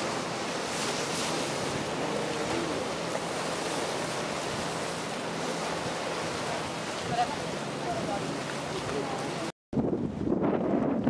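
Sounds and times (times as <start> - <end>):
sea waves against rocks: 0.0 - 11.0
wind on microphone: 0.0 - 11.0.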